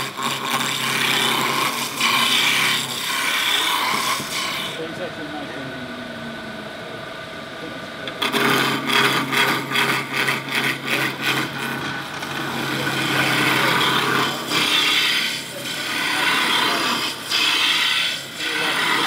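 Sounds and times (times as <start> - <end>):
gouge scraping wood on lathe: 0.0 - 4.8, 8.1 - 19.0
motor hum: 0.0 - 19.0.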